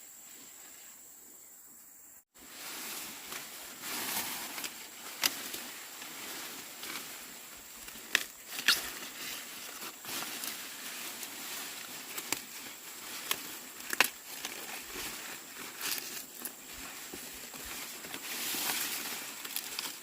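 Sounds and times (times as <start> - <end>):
faint steady hiss: 0.0 - 20.0
rustling and crinkling: 2.3 - 20.0.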